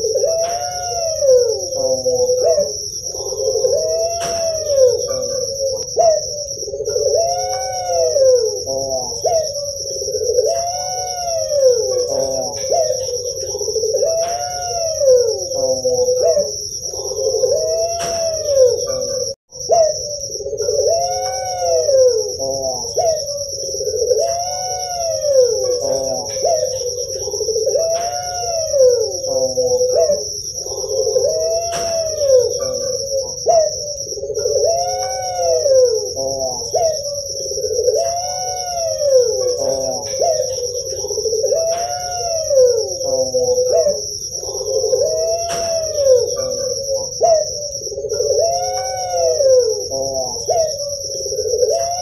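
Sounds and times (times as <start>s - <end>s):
doves cooing: 0.0s - 52.0s
steady high-pitched whine: 0.0s - 52.0s.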